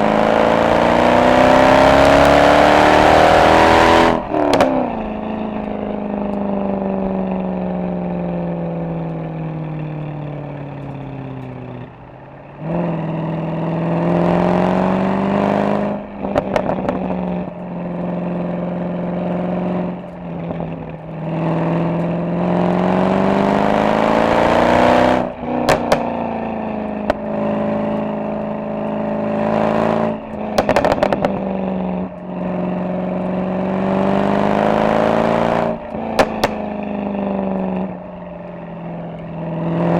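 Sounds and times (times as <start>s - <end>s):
car exhaust note accelerating: 0.0s - 39.9s
exhaust crackles: 0.0s - 39.9s.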